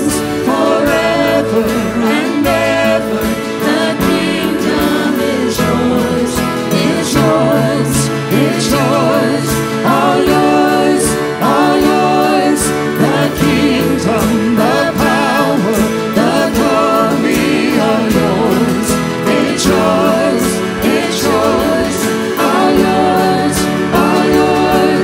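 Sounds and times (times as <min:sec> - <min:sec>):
people singing: 0:00.0 - 0:25.0
worship band playing: 0:00.0 - 0:25.0.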